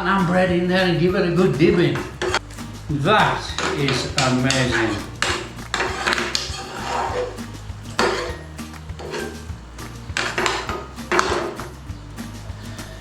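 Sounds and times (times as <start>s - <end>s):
background music: 0.0s - 13.0s
utensil scraping sauce in a pan: 1.4s - 13.0s.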